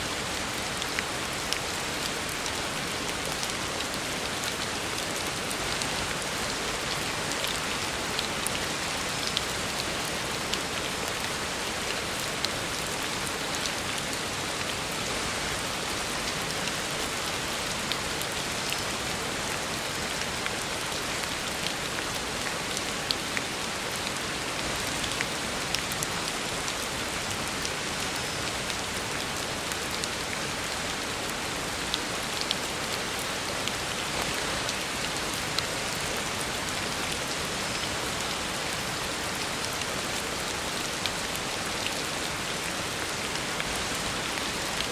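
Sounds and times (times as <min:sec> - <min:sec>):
heavy rain on a road: 0:00.0 - 0:44.9.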